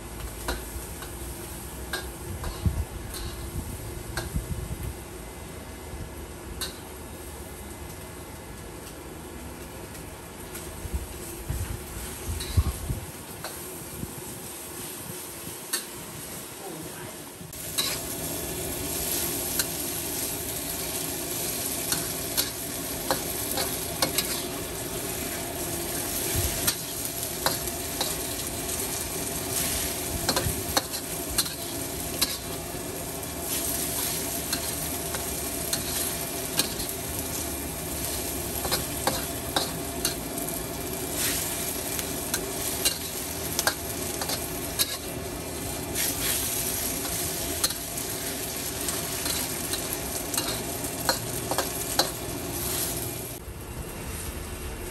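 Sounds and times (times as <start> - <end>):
noodles sizzling in a wok: 0.0 - 54.9.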